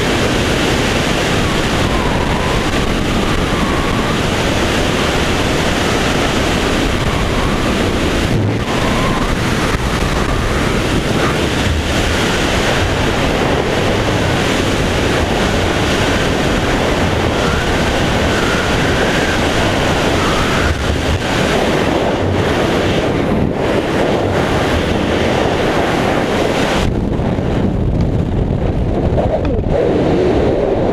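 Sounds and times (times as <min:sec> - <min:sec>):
wind rushing over microphone: 0:00.0 - 0:30.9.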